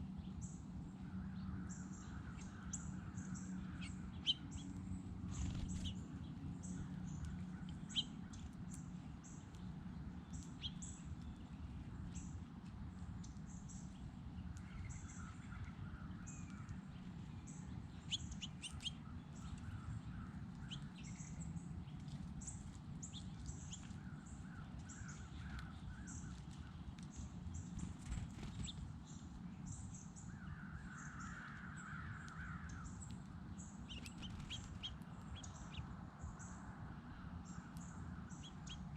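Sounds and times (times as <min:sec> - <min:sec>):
birds chirping: 0:00.0 - 0:38.9
low background rumble: 0:00.0 - 0:38.9.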